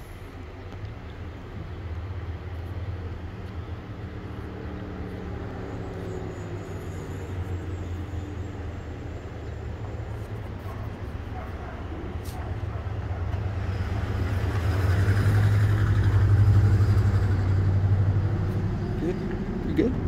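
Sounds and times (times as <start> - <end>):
faint engine hum: 0.0 - 20.0
vehicle engines rumbling: 0.0 - 20.0.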